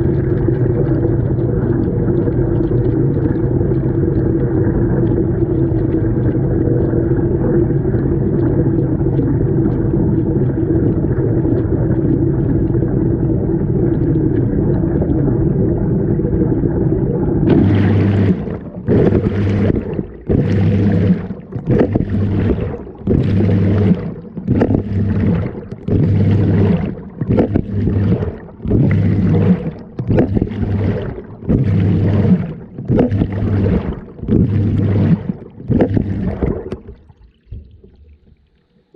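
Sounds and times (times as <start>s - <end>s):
washing machine rumble: 0.0s - 37.9s
water sloshing and gurgling: 0.0s - 38.9s.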